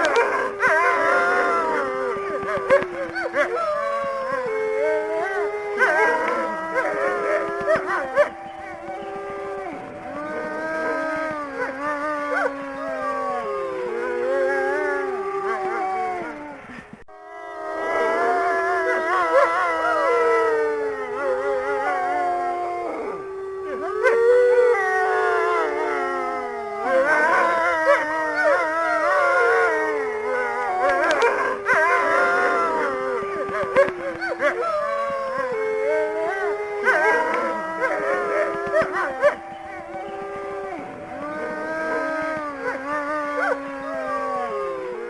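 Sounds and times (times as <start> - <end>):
wolves howling: 0.0 - 45.0.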